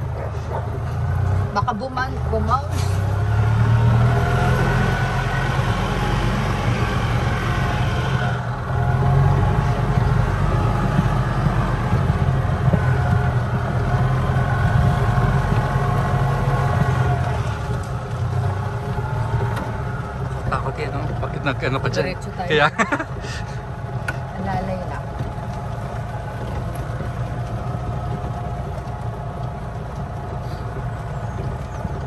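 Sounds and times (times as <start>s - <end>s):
golf cart motor running: 0.0s - 32.0s.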